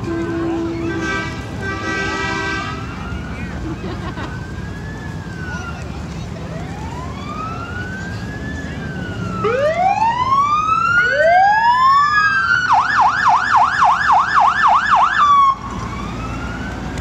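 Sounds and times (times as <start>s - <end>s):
fire truck sirens wailing: 0.0s - 17.0s
fast siren yelp: 2.3s - 16.8s.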